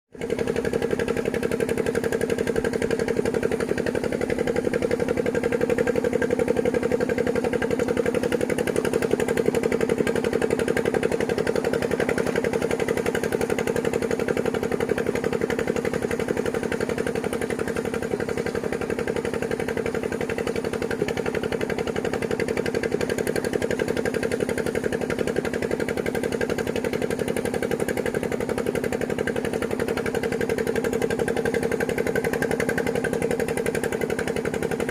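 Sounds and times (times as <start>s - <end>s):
engine running with pulsing throb: 0.1s - 34.9s.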